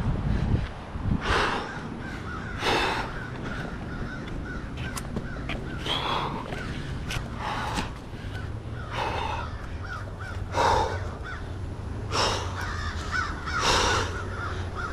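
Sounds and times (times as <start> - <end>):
crows cawing: 1.3 - 14.9.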